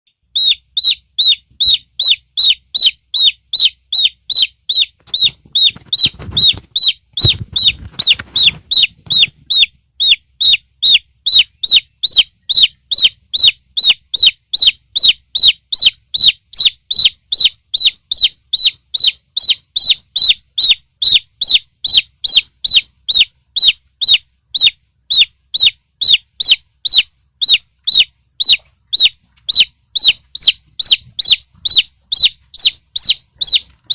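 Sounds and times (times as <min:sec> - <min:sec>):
chick peeping: 0:00.1 - 0:33.9.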